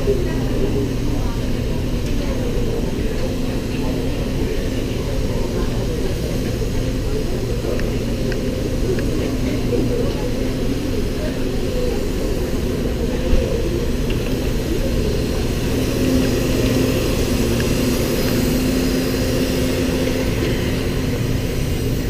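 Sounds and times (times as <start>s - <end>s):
train rumble and hum: 0.0s - 22.0s.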